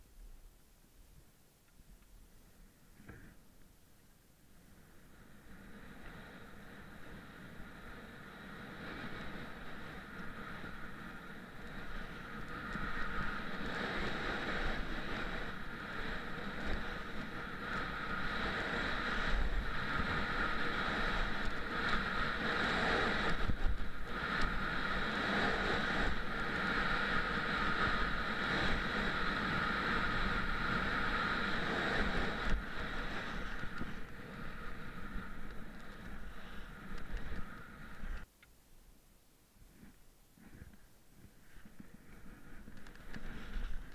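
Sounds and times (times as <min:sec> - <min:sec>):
skis running over snow: 0:05.4 - 0:38.3, 0:39.6 - 0:43.9
wind on microphone: 0:05.5 - 0:38.3, 0:39.6 - 0:43.9.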